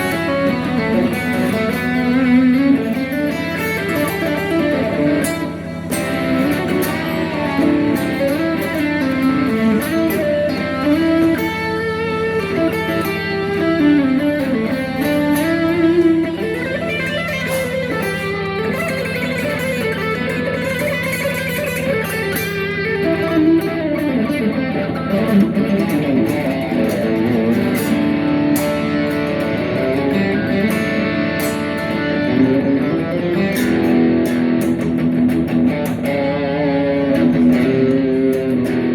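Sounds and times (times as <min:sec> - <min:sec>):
rock music with electric guitar: 0:00.0 - 0:38.9.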